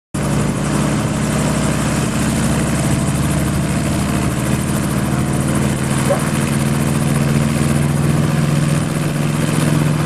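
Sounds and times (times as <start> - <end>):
helicopter engine and rotor drone: 0.2 - 10.0.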